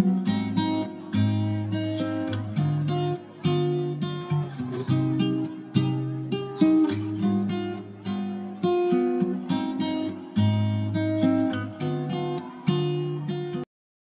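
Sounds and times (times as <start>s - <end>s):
acoustic guitar chords: 0.0s - 13.7s.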